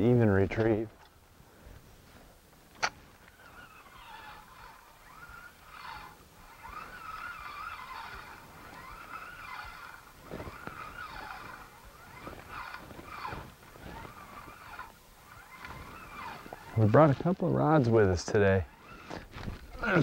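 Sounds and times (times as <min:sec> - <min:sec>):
fishing reel whirring: 0:02.3 - 0:20.0.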